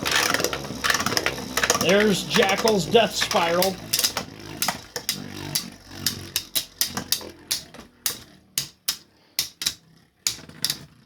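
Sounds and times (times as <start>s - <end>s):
plastic spinning tops clicking: 0.0s - 11.0s.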